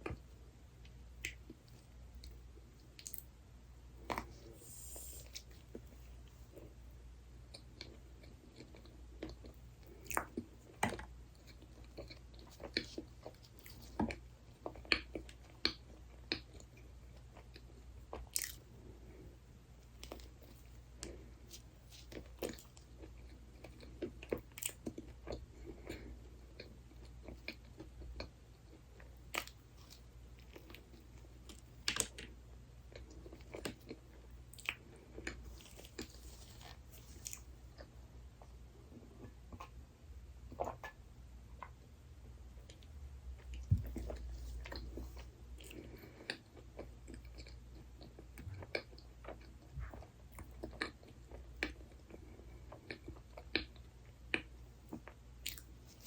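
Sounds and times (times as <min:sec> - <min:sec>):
faint low hum: 0:00.0 - 0:56.0
person chewing and crunching: 0:01.2 - 0:03.3, 0:04.0 - 0:39.8, 0:42.6 - 0:56.0.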